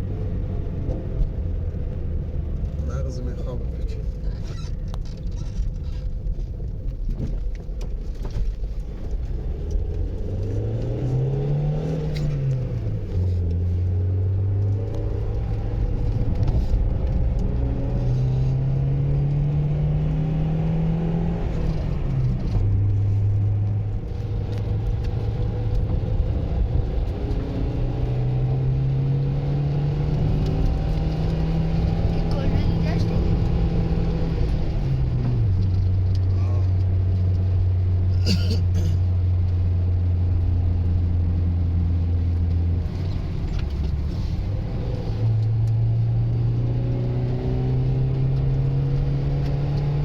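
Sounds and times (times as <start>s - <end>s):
vehicle engine revving: 9.1s - 50.0s.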